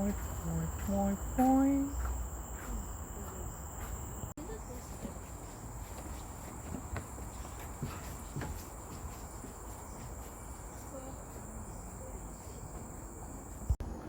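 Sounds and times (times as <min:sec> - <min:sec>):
insects droning: 0:00.0 - 0:13.8
faint background noise: 0:00.0 - 0:14.0.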